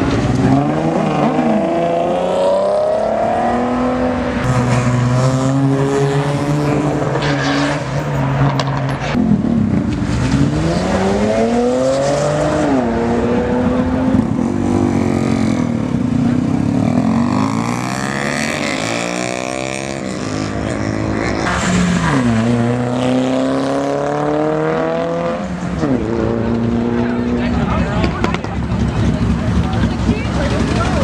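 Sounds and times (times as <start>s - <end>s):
car engines accelerating hard: 0.0s - 31.0s.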